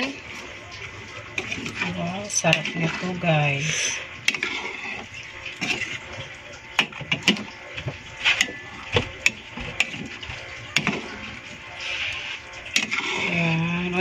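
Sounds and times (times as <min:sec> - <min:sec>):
utensil scraping and clinking pot: 0:01.2 - 0:14.0.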